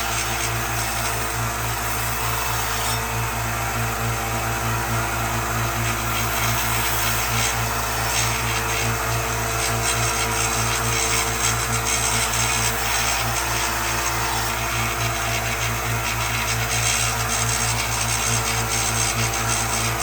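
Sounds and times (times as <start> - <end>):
tool scraping wood: 0.0 - 20.0.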